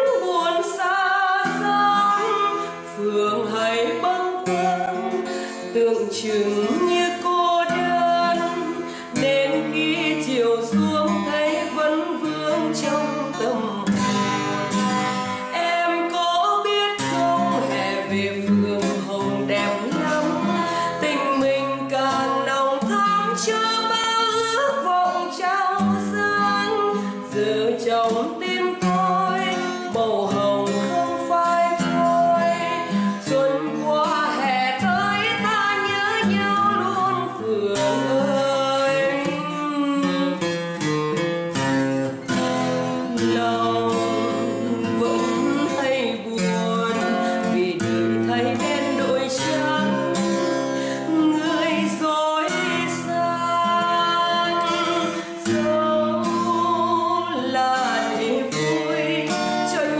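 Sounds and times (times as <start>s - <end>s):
person singing: 0.0s - 14.2s, 15.4s - 40.5s, 42.8s - 59.9s
acoustic guitar: 0.0s - 59.9s.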